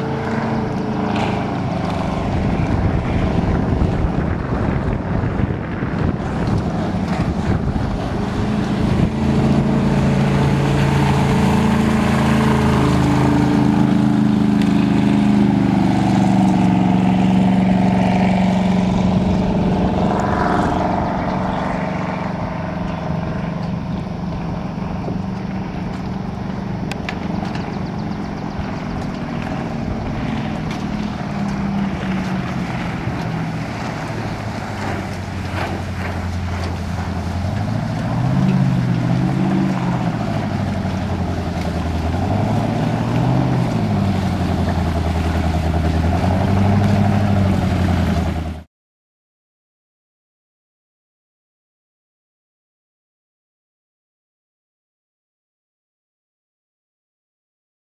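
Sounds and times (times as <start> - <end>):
boat engine running: 0.0 - 48.7.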